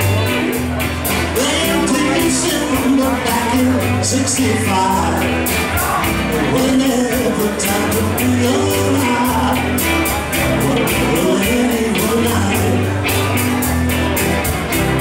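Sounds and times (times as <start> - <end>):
man singing lead: 0.0 - 14.0
drum kit beat: 0.0 - 15.0
electric bass: 0.0 - 15.0
electric guitars: 0.0 - 15.0.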